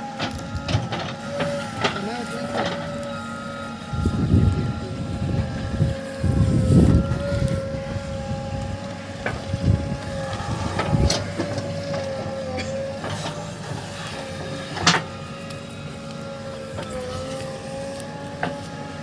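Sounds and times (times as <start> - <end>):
diesel machinery whine and rumble: 0.0 - 19.0.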